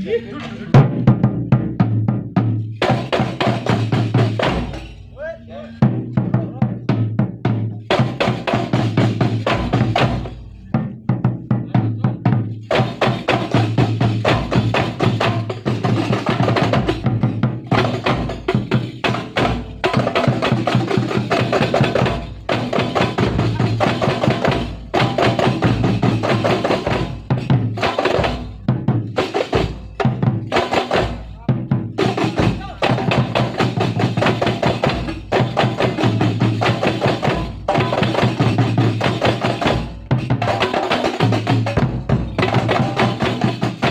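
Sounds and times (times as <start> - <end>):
frame drums playing fast rhythm: 0.0 - 43.9.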